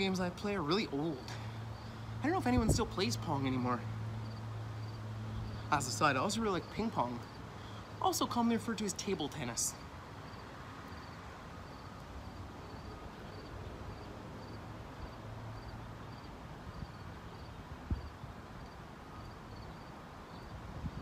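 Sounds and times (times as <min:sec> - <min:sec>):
outdoor background noise: 0:00.0 - 0:21.0
high insect chirp: 0:00.3 - 0:08.3, 0:09.2 - 0:21.0.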